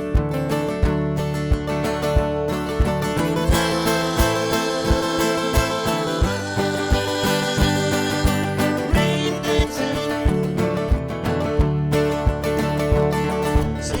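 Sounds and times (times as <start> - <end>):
strummed and plucked guitars: 0.0 - 14.0.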